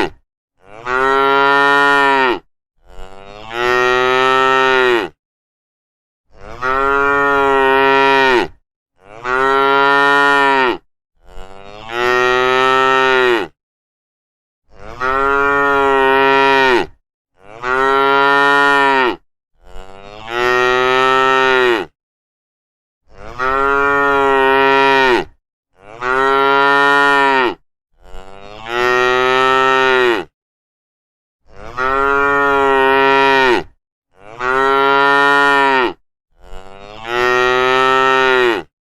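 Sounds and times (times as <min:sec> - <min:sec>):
cattle mooing: 0:00.0 - 0:05.2, 0:06.4 - 0:13.5, 0:14.7 - 0:21.9, 0:23.2 - 0:30.3, 0:31.5 - 0:38.7.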